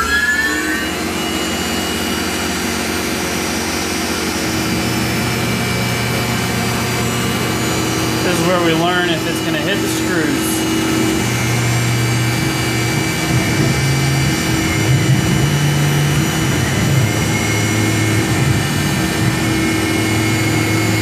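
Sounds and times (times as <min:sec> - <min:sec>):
low motor hum: 0:00.0 - 0:21.0
mill spindle whining: 0:00.0 - 0:21.0.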